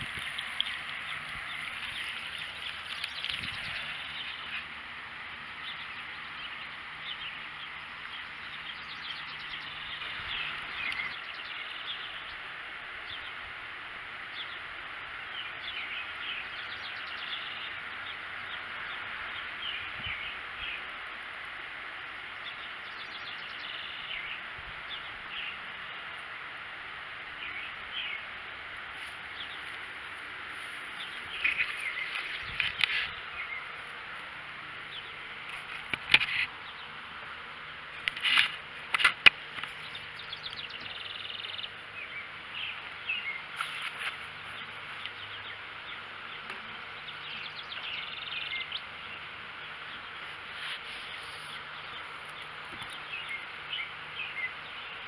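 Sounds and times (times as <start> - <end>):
small birds chirping: 0.0 - 13.5, 14.2 - 55.0
outdoor background hiss: 0.0 - 55.0.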